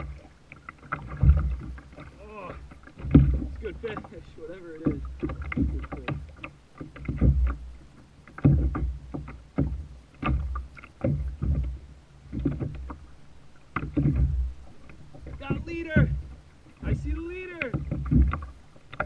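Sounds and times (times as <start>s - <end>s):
water splashing against kayak hull: 0.0s - 19.0s.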